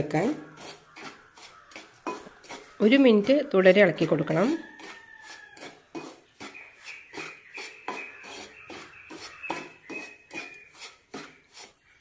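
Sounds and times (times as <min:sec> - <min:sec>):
spatula scraping a pan: 0:00.3 - 0:12.0.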